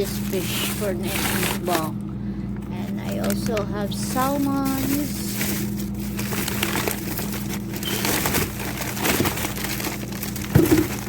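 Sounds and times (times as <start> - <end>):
plastic bags rustling: 0.0 - 11.0
steady low hum: 0.0 - 11.0.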